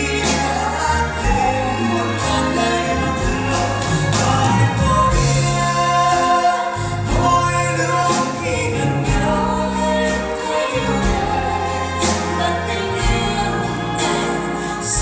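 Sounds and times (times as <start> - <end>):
slow pop love song: 0.0 - 15.0.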